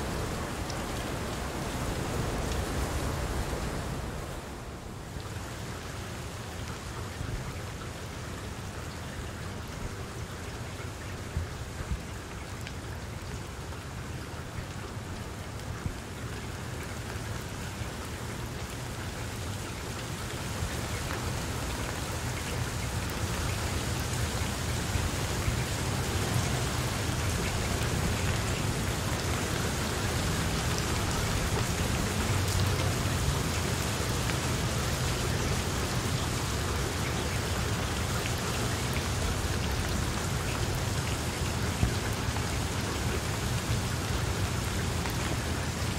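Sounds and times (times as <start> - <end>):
heavy rain on leaves: 0.0 - 45.9.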